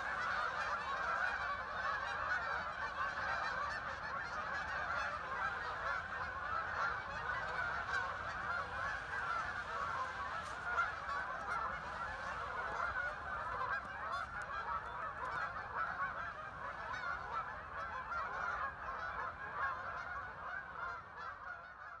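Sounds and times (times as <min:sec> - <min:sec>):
flock of waterfowl calling: 0:00.0 - 0:22.0.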